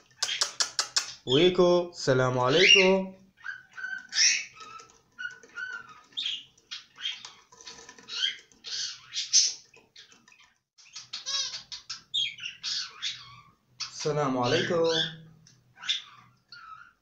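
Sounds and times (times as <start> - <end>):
parrot chirping and warbling: 2.5 - 17.0.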